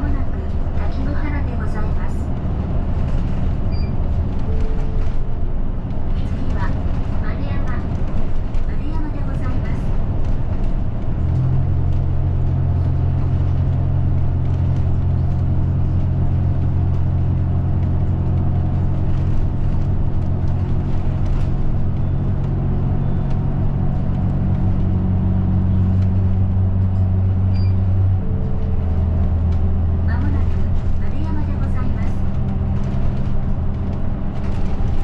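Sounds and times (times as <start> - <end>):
bus engine drone: 0.0 - 35.0
road noise: 0.0 - 35.0.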